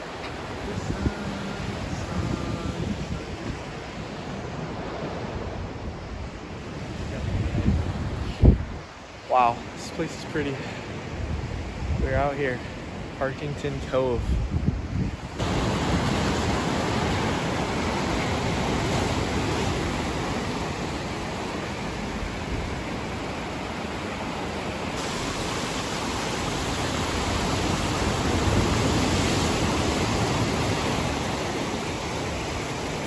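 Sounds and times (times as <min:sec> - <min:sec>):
ocean surf breaking on rocks: 0:00.0 - 0:33.0.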